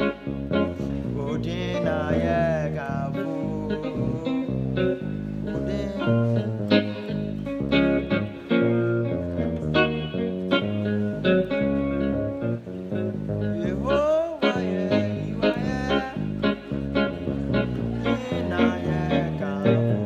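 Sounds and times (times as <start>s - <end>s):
bass guitar walking bass line: 0.0s - 20.0s.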